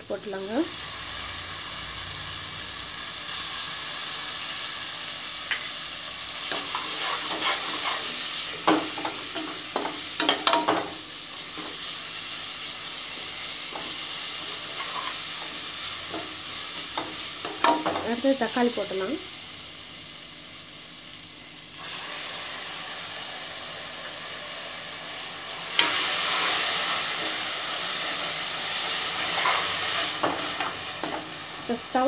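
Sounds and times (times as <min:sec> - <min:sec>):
paste and onions sizzling in oil: 0:00.1 - 0:32.0.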